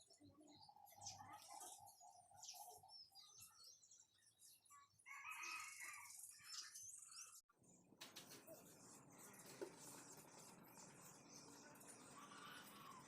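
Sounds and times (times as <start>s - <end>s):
faint bird calls and chirps: 0.0s - 13.0s.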